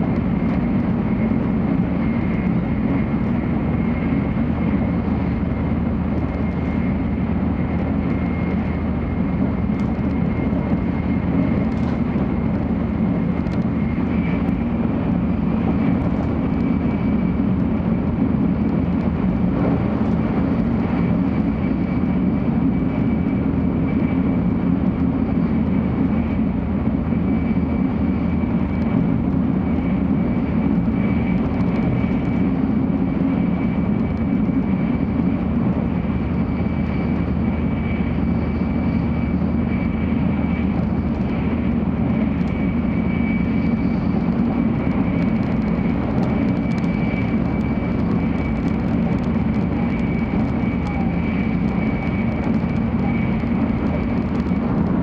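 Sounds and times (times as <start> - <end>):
low rumble of train wheels: 0.0 - 55.0
faint high whine: 1.1 - 55.0.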